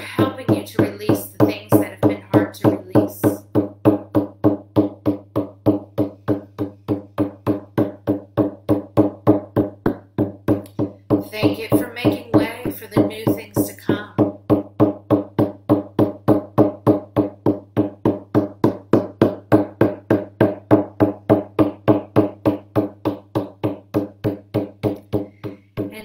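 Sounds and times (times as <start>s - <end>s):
frame drum beating: 0.0s - 26.0s.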